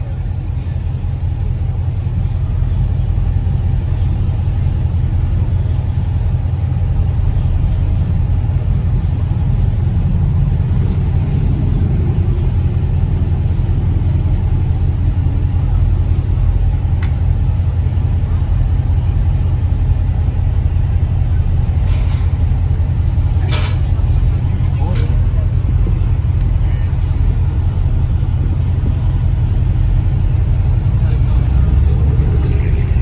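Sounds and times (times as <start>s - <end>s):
car engine rumble: 0.0s - 33.0s
road drone: 0.0s - 33.0s.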